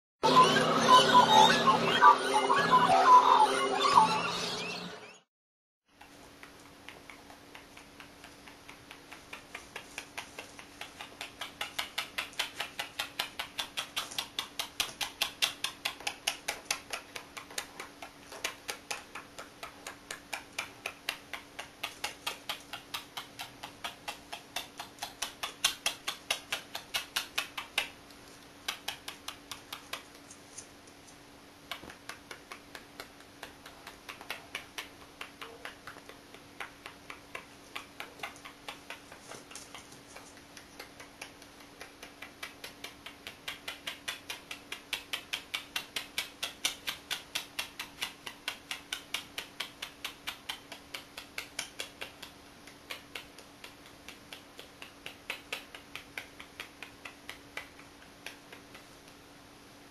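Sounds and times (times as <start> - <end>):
parrot making kissing clicks: 6.0 - 28.0, 28.6 - 30.2, 31.6 - 59.2.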